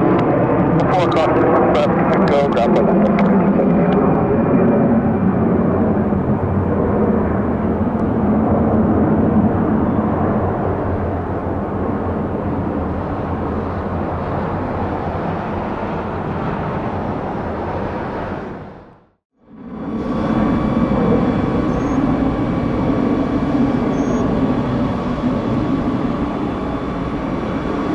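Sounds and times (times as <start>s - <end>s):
jet engines rushing: 0.0s - 27.9s.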